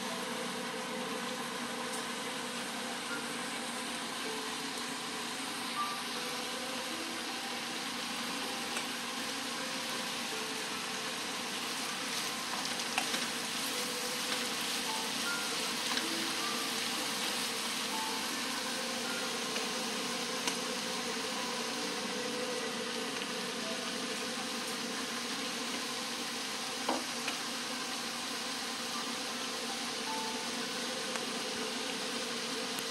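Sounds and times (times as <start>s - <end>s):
frying hiss: 0.0s - 32.9s.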